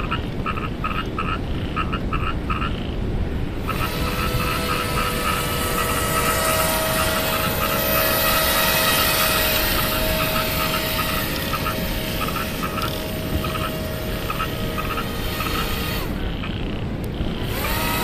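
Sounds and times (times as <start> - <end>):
electric motors and propellers whining: 0.0 - 18.0
steady low rumble: 0.0 - 18.0
high pulsing tone: 3.5 - 18.0.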